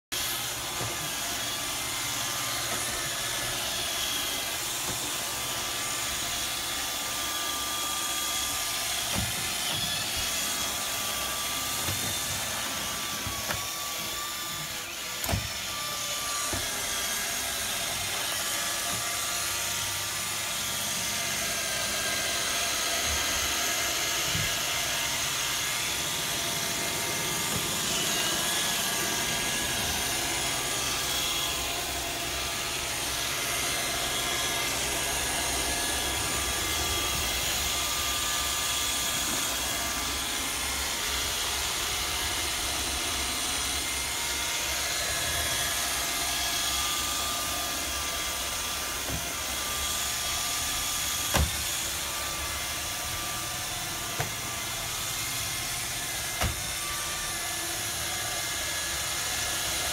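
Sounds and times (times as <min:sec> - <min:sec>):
robot vacuum whirring: 0:00.2 - 0:59.9.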